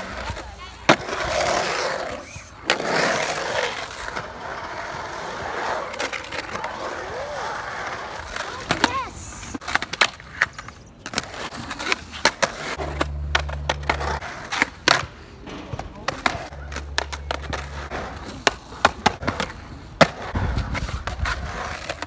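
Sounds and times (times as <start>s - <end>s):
skateboard clacking on coping: 0.0s - 22.0s
skateboard wheels rolling on concrete: 0.0s - 22.0s.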